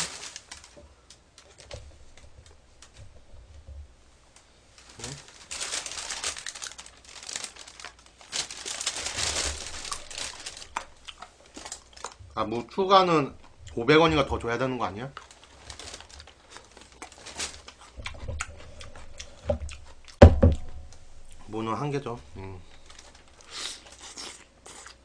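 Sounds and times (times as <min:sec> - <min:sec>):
fried chicken crackling: 0:00.0 - 0:02.3, 0:04.8 - 0:20.2, 0:21.3 - 0:25.0
plastic packaging crinkling: 0:00.0 - 0:03.0, 0:04.7 - 0:19.2, 0:19.8 - 0:25.0.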